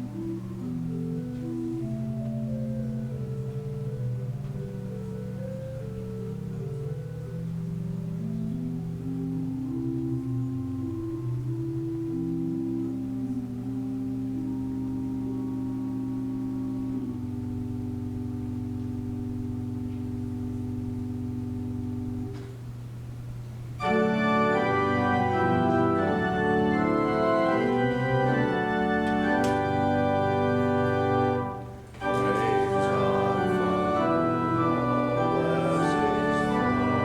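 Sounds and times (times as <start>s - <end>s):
church organ chords: 0.0s - 37.0s.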